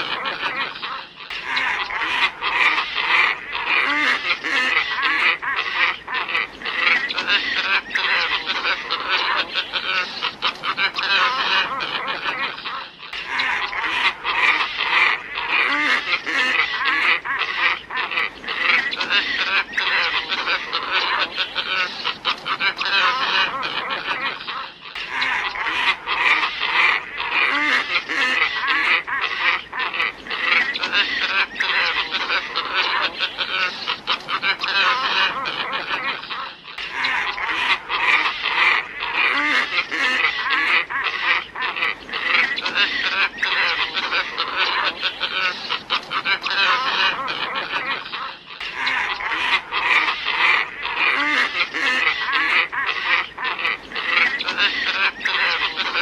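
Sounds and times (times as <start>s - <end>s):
ibises calling in chorus: 0.0s - 56.0s.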